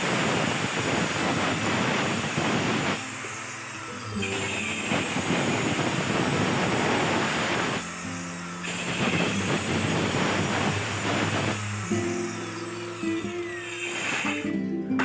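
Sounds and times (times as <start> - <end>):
saw cutting bamboo: 0.0 - 14.5.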